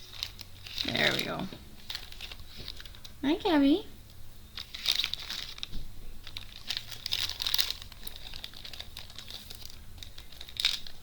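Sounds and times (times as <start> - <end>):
packaging crinkling and rustling: 0.0 - 3.2, 4.5 - 11.0.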